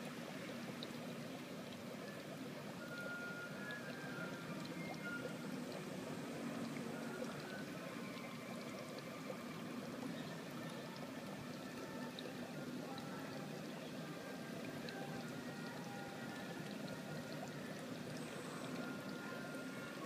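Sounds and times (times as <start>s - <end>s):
trickle of running water: 0.0s - 20.0s.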